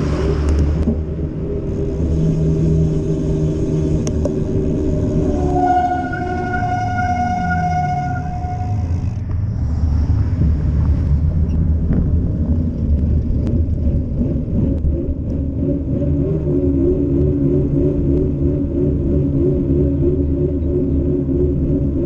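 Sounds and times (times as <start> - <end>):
bicycle tyres on asphalt: 0.0 - 19.7.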